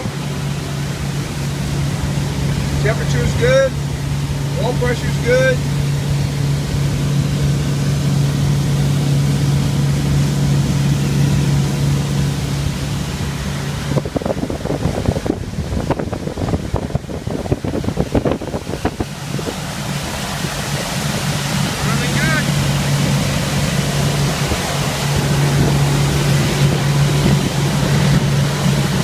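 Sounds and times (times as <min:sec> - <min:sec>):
boat engine running: 0:00.0 - 0:29.0
wind and water rushing: 0:00.0 - 0:29.0.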